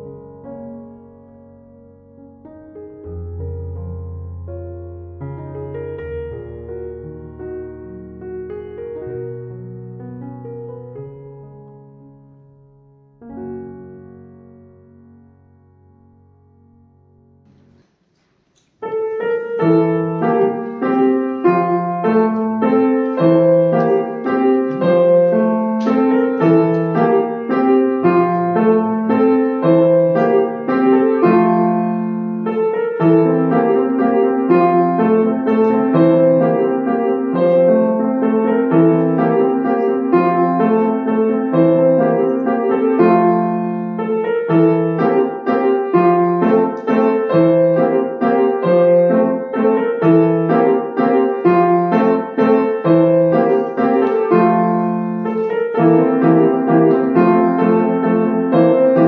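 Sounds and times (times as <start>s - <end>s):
grand piano piece: 0.0s - 59.0s.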